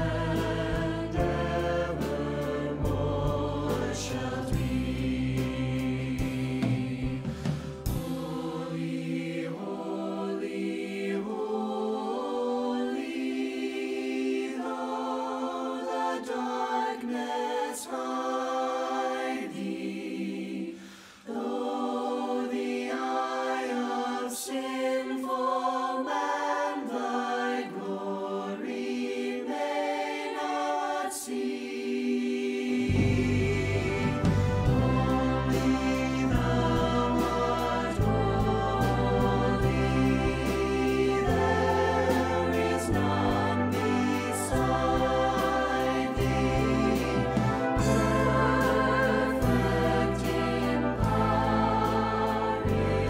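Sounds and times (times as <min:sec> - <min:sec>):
voices singing a hymn: 0:00.0 - 0:53.0.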